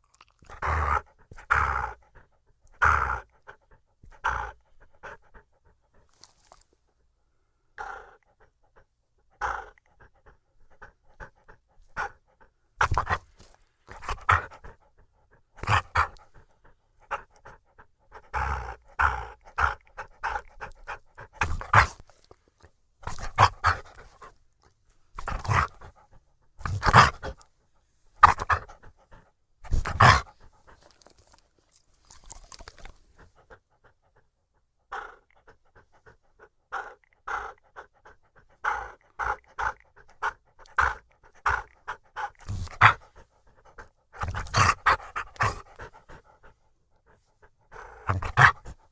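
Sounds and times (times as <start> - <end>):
dog panting: 0.5 - 7.1, 7.8 - 48.9.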